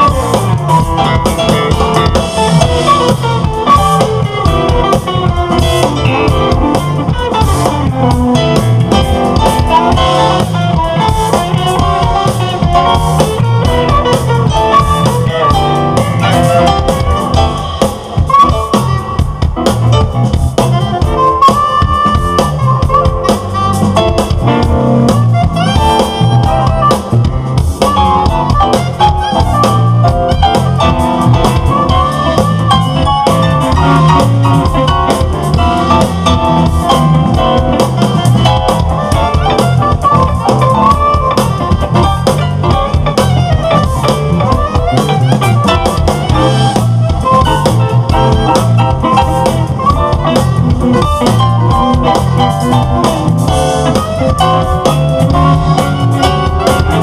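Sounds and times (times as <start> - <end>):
drum kit: 0.0 - 57.0
electric bass: 0.0 - 57.0
electric guitar: 0.0 - 57.0
keyboards: 0.0 - 57.0
saxophone: 0.0 - 57.0.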